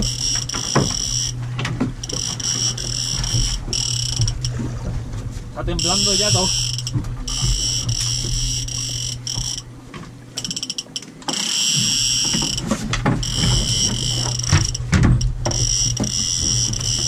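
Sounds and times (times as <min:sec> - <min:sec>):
fishing reel drag buzzing: 0:00.0 - 0:04.8, 0:05.6 - 0:17.0
reel drag clicks: 0:00.0 - 0:04.9, 0:05.6 - 0:17.0.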